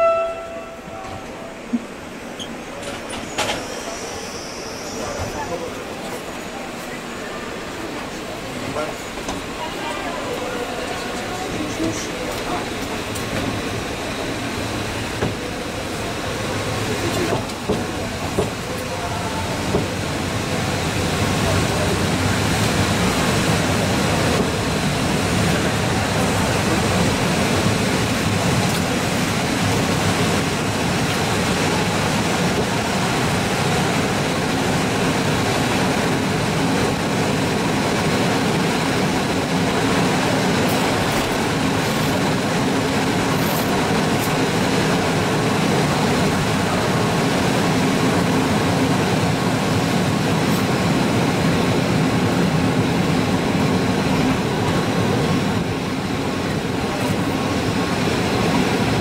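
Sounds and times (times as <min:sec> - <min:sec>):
train wheels running: 0:07.6 - 0:59.0.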